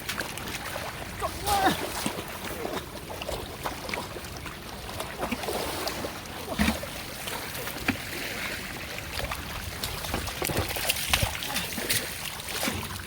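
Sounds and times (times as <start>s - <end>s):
water splashing in shallow water: 0.0s - 13.0s.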